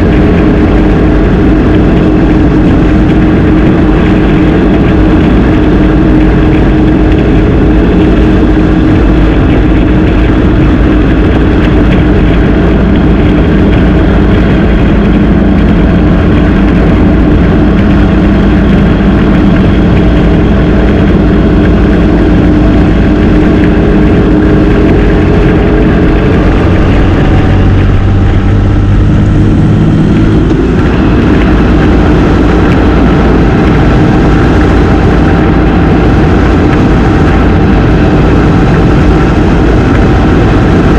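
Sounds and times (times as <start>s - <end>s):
dense low rumble: 0.0s - 40.9s
motorcycle engine running: 0.0s - 40.9s.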